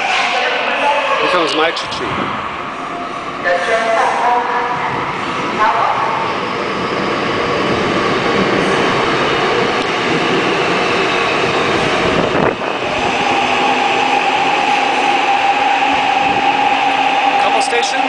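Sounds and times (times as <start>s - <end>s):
subway train pulling in: 0.0s - 18.0s.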